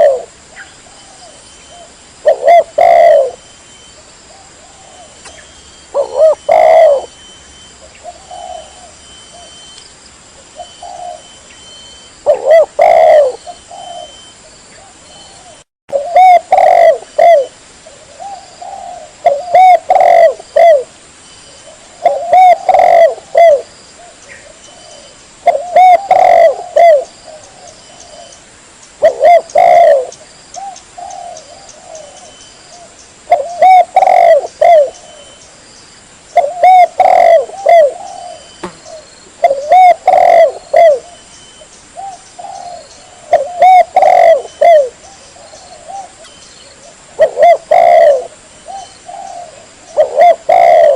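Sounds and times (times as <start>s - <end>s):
dove cooing: 0.0s - 3.4s, 4.0s - 7.2s, 7.8s - 9.7s, 10.5s - 11.5s, 12.2s - 20.9s, 21.6s - 28.4s, 29.0s - 35.4s, 36.4s - 41.3s, 42.0s - 50.9s.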